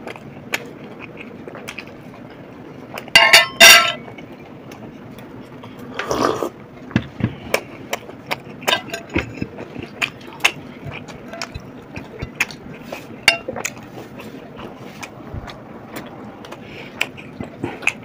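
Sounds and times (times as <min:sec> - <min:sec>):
people chewing: 0:00.0 - 0:03.2, 0:04.0 - 0:18.0.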